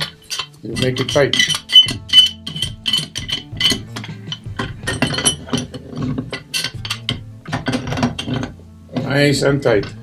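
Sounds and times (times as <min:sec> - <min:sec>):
wrenches clinking against valve: 0:00.0 - 0:09.1.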